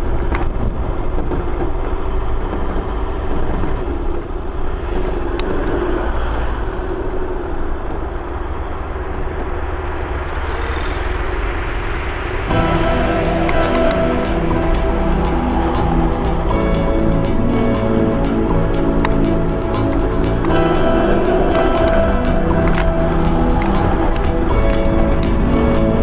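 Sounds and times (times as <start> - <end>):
diesel engine driving: 0.0 - 26.0
dirt bike passing: 4.6 - 26.0.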